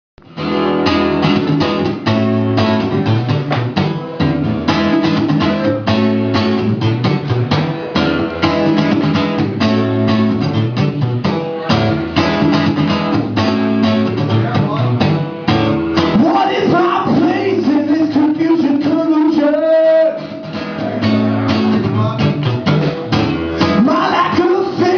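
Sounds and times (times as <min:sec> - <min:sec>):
acoustic guitar strumming: 0:00.2 - 0:24.9.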